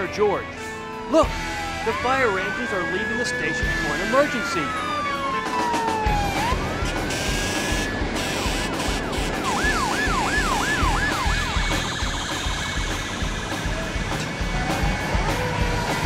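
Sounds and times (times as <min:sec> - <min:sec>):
fire engine siren: 0:00.7 - 0:16.0.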